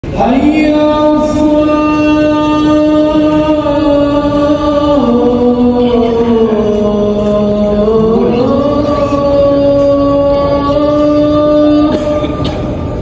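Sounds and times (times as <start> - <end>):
wordless a cappella vocal: 0.1 - 12.7.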